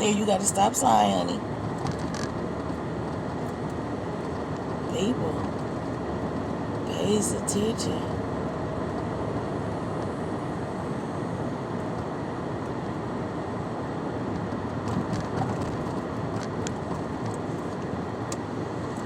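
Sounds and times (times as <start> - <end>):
car cabin road and engine noise: 0.0 - 19.0.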